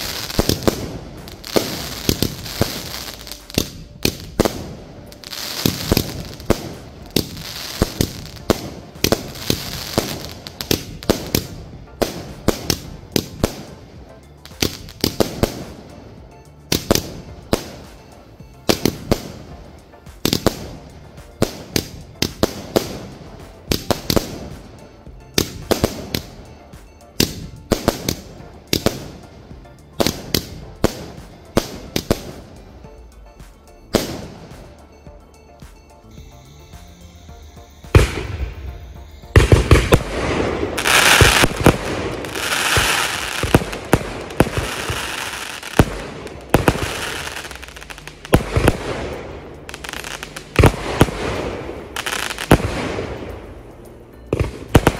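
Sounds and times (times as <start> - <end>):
firework bangs: 0.0 - 29.4, 37.8 - 53.6, 54.2 - 54.9
firework crackling and hiss: 0.0 - 32.6, 37.8 - 54.9.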